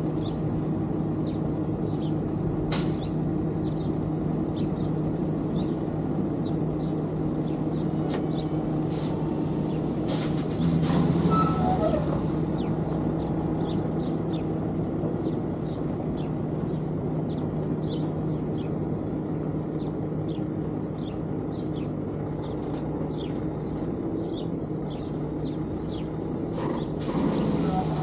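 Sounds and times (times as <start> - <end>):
small birds chirping: 0.0 - 2.3, 2.9 - 10.8, 11.5 - 28.0
diesel engine droning: 0.0 - 28.0.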